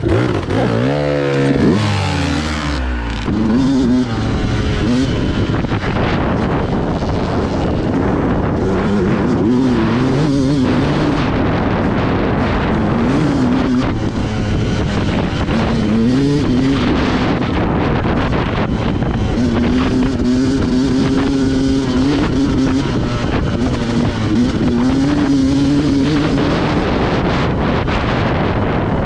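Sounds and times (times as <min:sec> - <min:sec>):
dirt bike engine revving: 0:00.0 - 0:29.0
steady rush of noise: 0:00.0 - 0:29.0.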